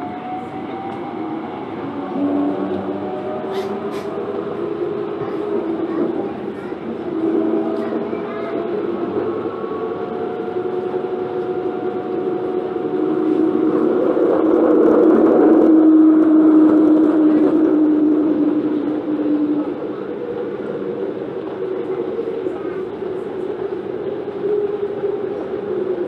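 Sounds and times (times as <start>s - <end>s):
wheels rumbling on rail: 0.0s - 26.0s
whining electric train motors: 0.0s - 26.0s.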